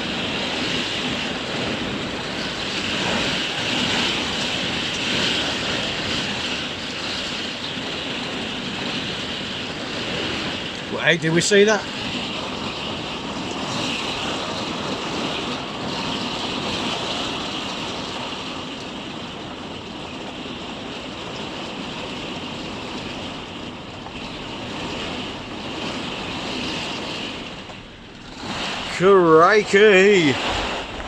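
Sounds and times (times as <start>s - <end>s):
heavy rain on caravan: 0.0s - 31.0s.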